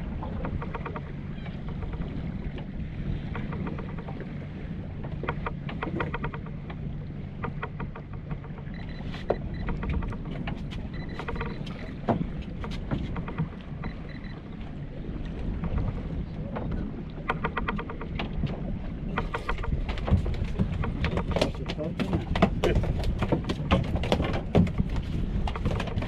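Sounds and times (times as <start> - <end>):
low rumble of wind and water: 0.0 - 26.0.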